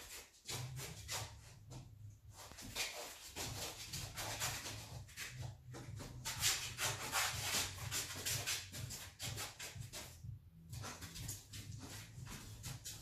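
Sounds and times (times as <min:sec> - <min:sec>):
shuffling footsteps on concrete: 0:00.0 - 0:13.0.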